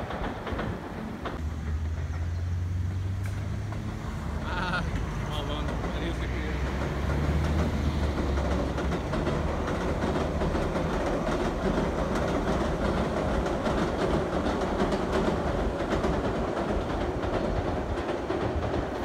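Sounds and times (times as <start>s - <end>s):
wheel clicks over rails: 0.0s - 2.4s, 3.2s - 19.0s
train rumbling over bridge: 0.0s - 19.0s.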